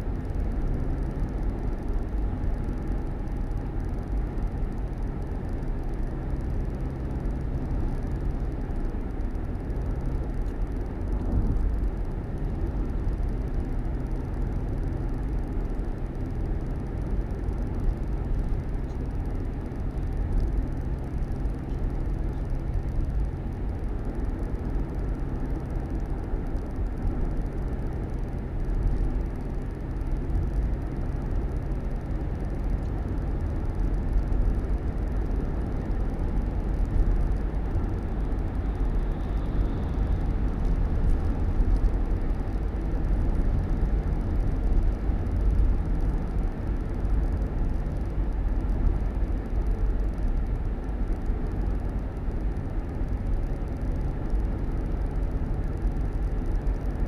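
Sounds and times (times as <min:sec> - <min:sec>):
road noise: 0:00.0 - 0:57.0
vehicle engine hum: 0:00.0 - 0:57.0.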